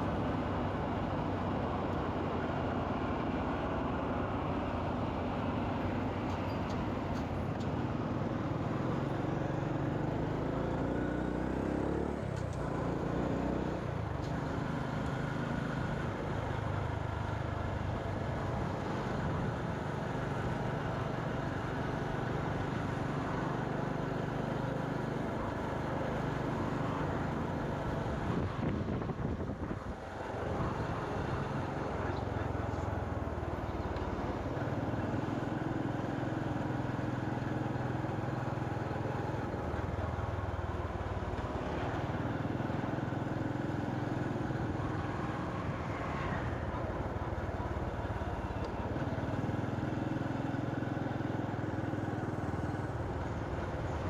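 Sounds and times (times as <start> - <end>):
road and traffic noise: 0.0 - 54.0.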